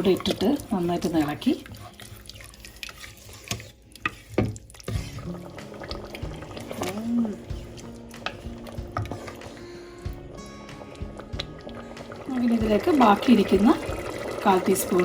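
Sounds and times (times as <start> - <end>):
spoon stirring thick stew: 0.0 - 15.0.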